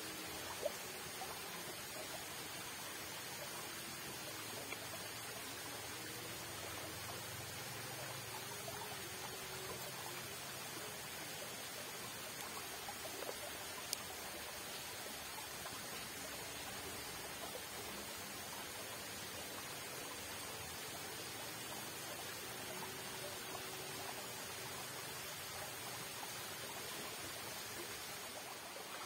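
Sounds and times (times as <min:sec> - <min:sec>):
rushing water in a channel: 0:00.0 - 0:29.0.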